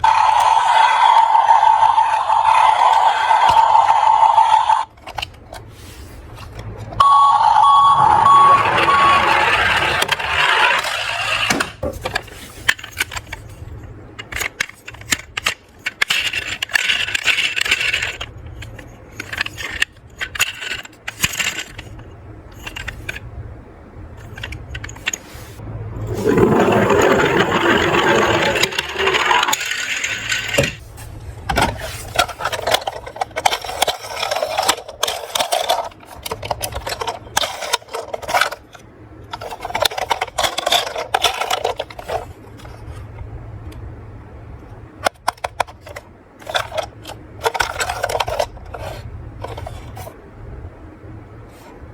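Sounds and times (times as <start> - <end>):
toy cars clinking and rattling: 0.0 - 5.6, 6.4 - 23.3, 24.2 - 25.4, 26.1 - 30.8, 31.5 - 43.1, 45.0 - 50.2
toy cars rolling: 0.0 - 23.3, 24.1 - 43.8, 45.0 - 50.2.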